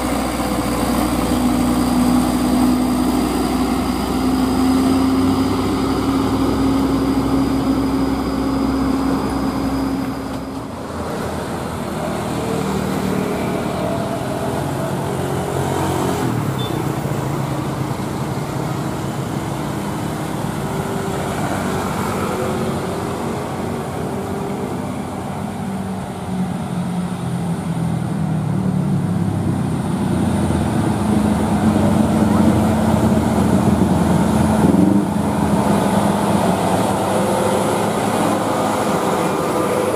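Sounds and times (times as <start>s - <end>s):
diesel truck driving by: 0.0s - 39.9s
road traffic: 0.0s - 39.9s.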